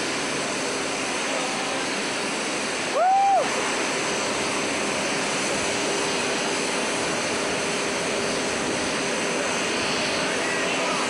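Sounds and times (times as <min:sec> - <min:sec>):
faint steady whine: 0:00.0 - 0:11.0
jet engine hissing rush: 0:00.0 - 0:11.0.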